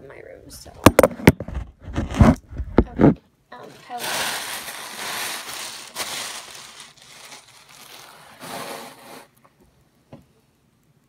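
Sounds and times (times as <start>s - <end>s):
crinkling and rustling on microphone: 0.6s - 10.3s.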